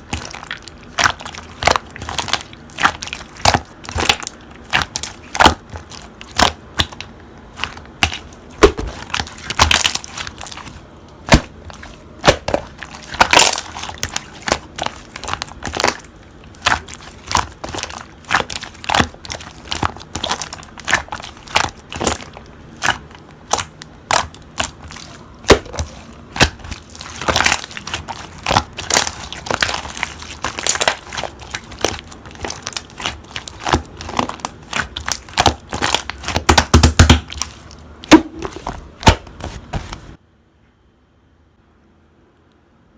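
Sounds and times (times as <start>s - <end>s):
slime crackling and popping: 0.0s - 40.2s.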